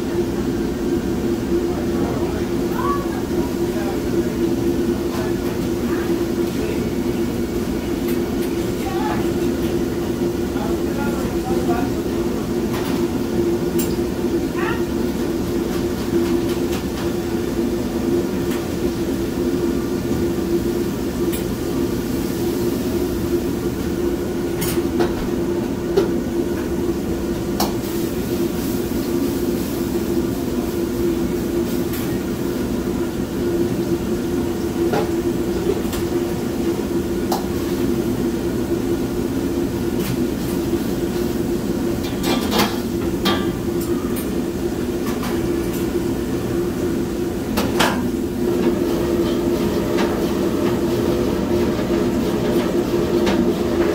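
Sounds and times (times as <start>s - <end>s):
gas burner roaring: 0.0s - 53.9s.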